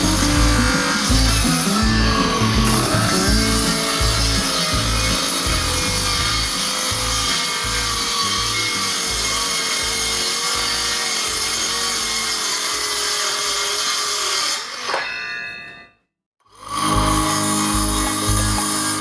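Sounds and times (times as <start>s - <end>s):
power saw cutting board: 0.0s - 15.2s, 16.5s - 19.0s.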